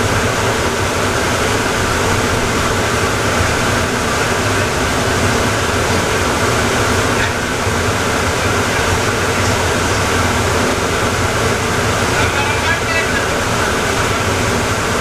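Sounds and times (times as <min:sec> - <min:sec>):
automated train rumbling: 0:00.0 - 0:15.0.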